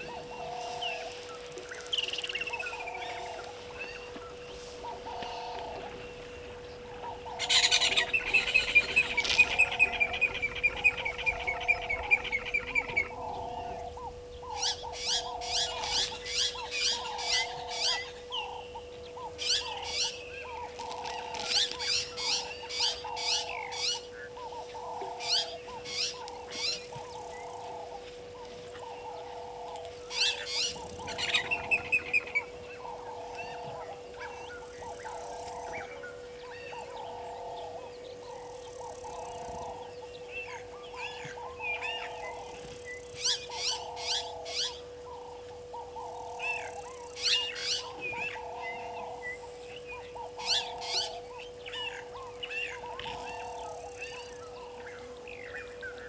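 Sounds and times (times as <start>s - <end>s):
birds chirping and trilling: 0.0s - 56.0s
low bird call: 0.0s - 56.0s.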